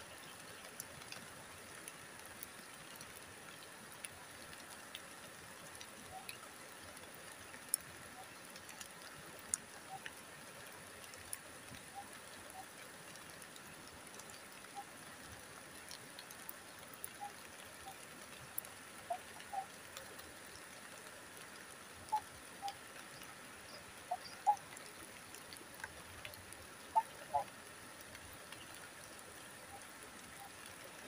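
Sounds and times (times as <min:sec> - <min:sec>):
raindrops tapping: 0:00.0 - 0:31.0.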